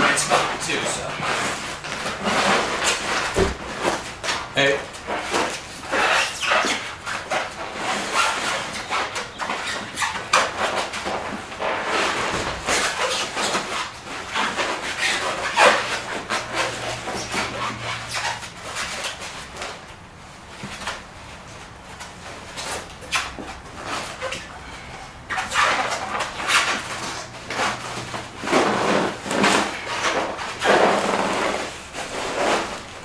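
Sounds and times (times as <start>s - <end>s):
nylon fabric rustling and scraping: 0.0s - 33.0s.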